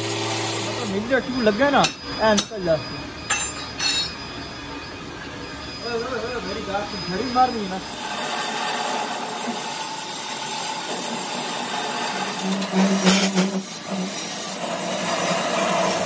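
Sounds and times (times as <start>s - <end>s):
lathe cutting metal grinding hiss: 0.0s - 16.0s.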